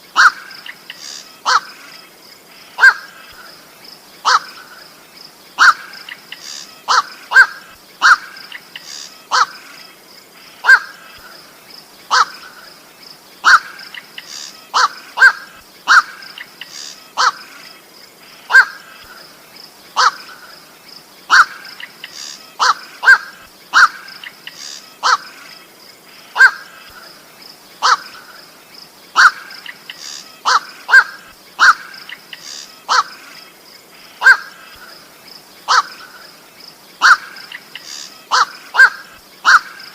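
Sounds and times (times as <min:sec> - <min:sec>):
night heron calling: 0:00.1 - 0:03.6, 0:04.2 - 0:05.0, 0:05.6 - 0:17.6, 0:18.3 - 0:39.9.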